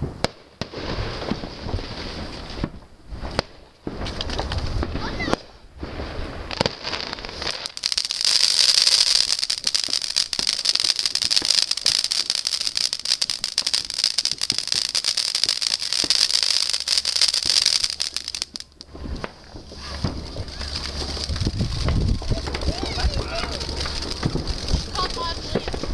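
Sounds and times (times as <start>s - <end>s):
firework crackling: 0.0s - 25.9s.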